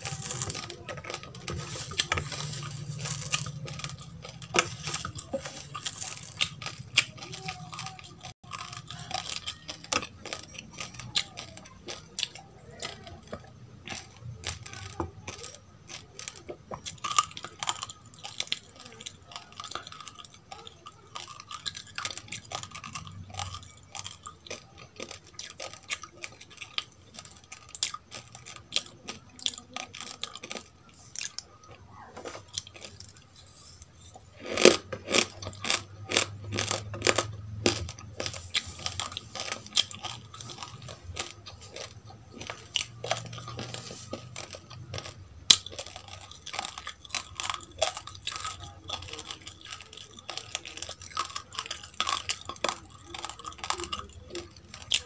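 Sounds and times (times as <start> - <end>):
crunching dry rice grains: 0.0 - 55.0.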